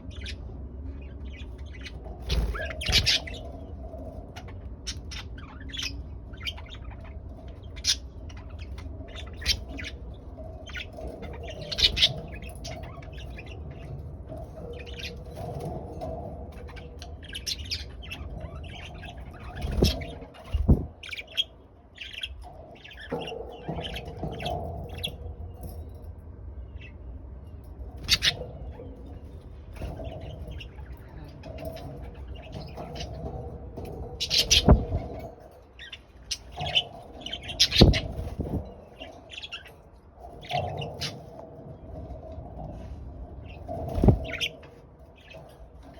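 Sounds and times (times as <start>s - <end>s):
budgerigars chirping: 0.0s - 25.2s, 28.0s - 41.4s, 43.5s - 45.9s.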